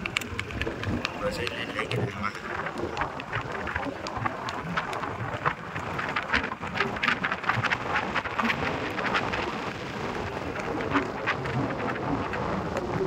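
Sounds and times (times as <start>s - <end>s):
hooves clattering on asphalt: 0.0s - 13.0s
wind noise on microphone: 0.0s - 13.0s.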